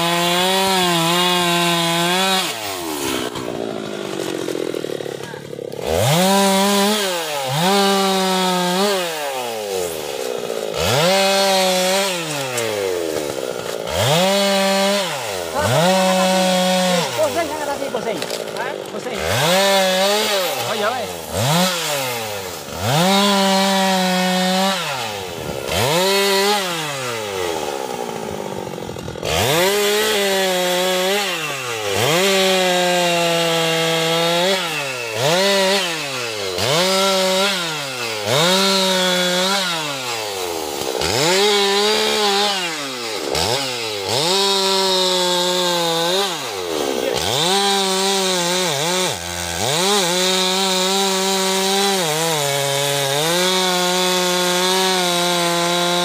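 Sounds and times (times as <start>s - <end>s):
chainsaw revving while cutting wood: 0.0s - 56.0s.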